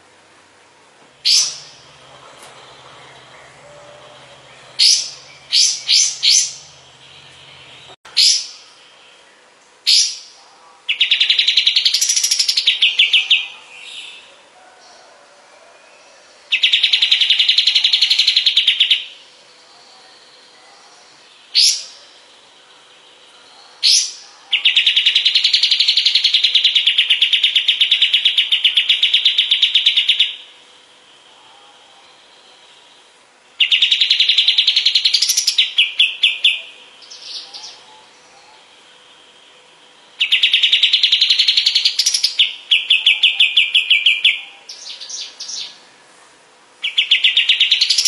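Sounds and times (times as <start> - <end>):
bird singing rapid trills: 1.2 - 14.3, 15.9 - 45.9, 46.8 - 48.0.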